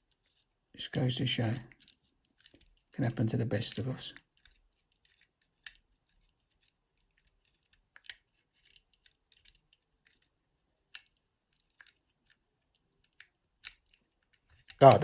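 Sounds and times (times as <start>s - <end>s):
lock picking clicks and scrapes: 0.0s - 15.0s.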